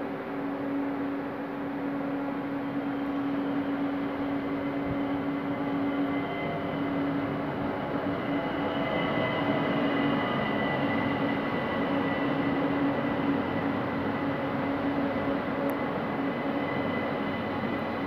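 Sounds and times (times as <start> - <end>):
electric train drive whine: 0.0 - 18.0.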